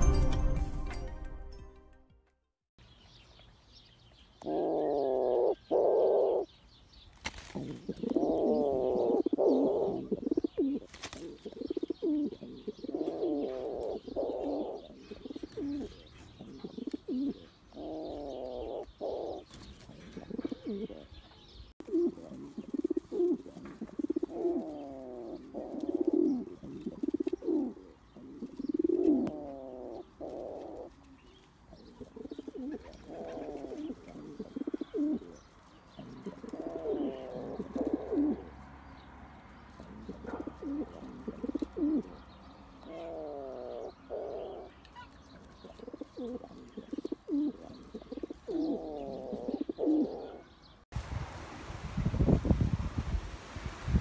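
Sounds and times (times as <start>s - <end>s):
pigeons cooing: 4.4s - 6.5s, 7.4s - 21.2s, 21.8s - 50.7s.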